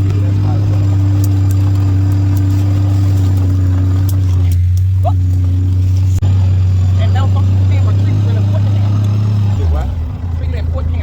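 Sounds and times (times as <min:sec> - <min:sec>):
atv engine droning: 0:00.0 - 0:11.0.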